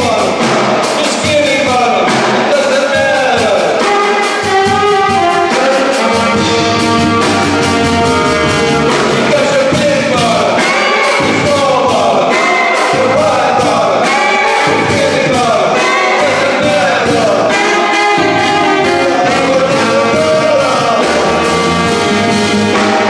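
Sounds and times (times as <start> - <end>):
steady drum beat: 0.0 - 23.0
upright bass: 0.0 - 23.0
saxophones playing: 3.3 - 23.0.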